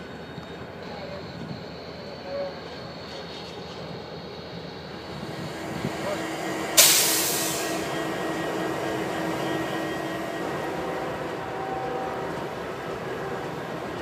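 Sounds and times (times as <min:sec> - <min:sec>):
diesel locomotive engine whirring: 0:00.0 - 0:14.0.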